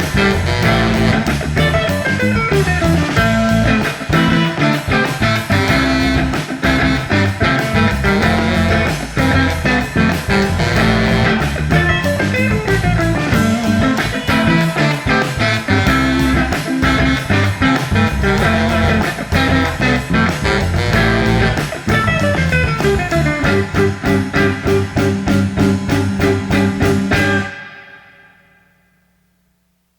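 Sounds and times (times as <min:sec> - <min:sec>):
instrumental band music: 0:00.0 - 0:28.5.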